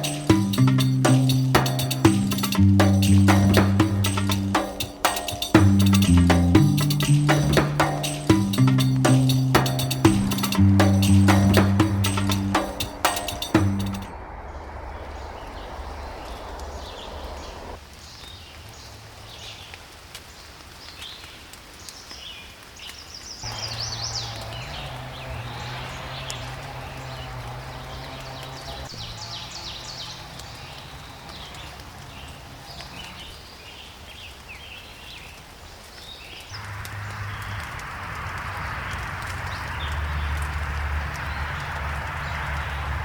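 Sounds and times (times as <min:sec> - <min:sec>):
small birds chirping: 0:00.0 - 0:19.7, 0:20.4 - 0:37.8
outdoor background noise: 0:00.0 - 0:43.0.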